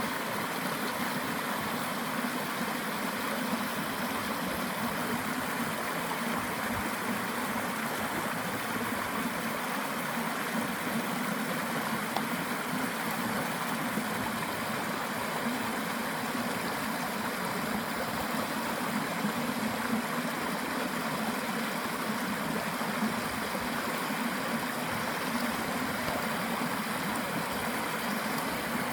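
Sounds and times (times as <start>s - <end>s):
stream water gurgling: 0.0s - 28.9s.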